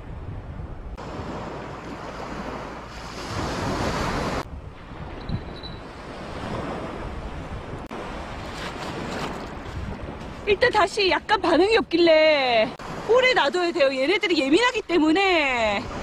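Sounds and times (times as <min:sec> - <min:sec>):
wind on microphone: 0:00.0 - 0:13.2, 0:15.2 - 0:16.0.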